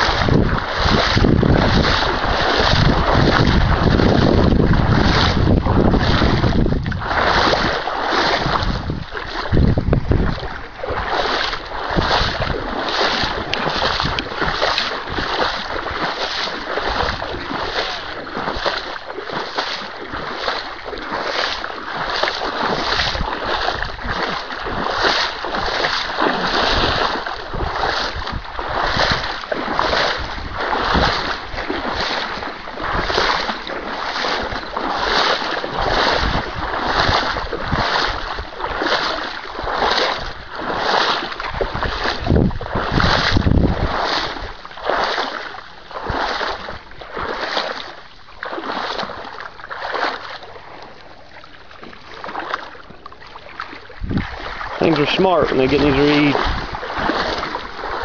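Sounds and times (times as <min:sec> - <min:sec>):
person wading through shallow water: 0:00.0 - 0:58.0.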